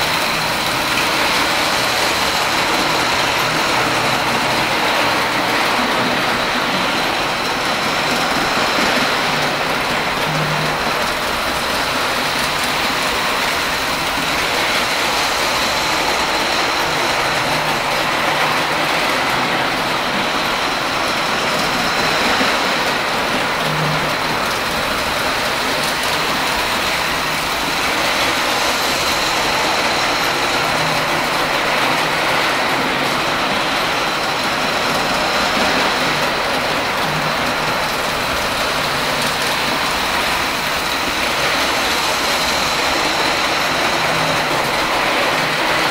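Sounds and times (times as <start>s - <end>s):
model train rolling: 0.0s - 45.9s.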